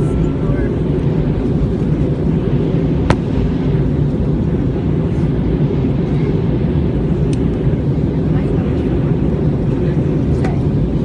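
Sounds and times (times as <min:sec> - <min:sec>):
engine and airflow rumble: 0:00.0 - 0:11.0.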